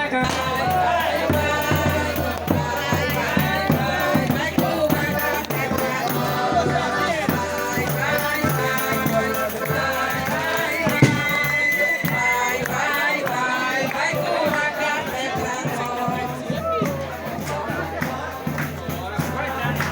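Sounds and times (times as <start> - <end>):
group singing folk song: 0.0 - 19.9
tambourine shaken and struck: 0.0 - 19.9.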